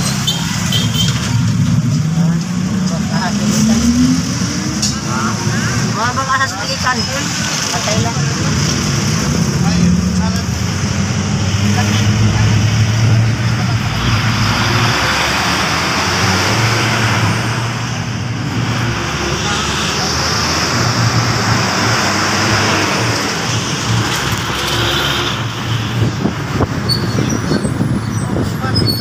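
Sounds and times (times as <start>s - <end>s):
vehicle engine hum: 0.0s - 28.8s
rush of traffic: 0.0s - 29.0s.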